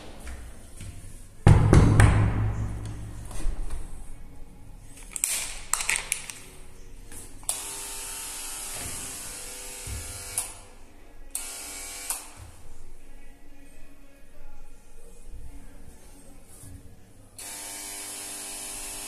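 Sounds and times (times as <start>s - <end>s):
faint disco music: 0.0s - 19.0s.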